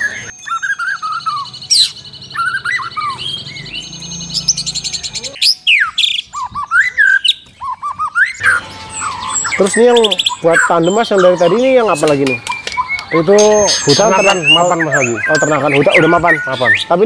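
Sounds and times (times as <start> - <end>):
fast high bird trill: 0.0 - 17.0
songbirds singing: 0.0 - 17.0.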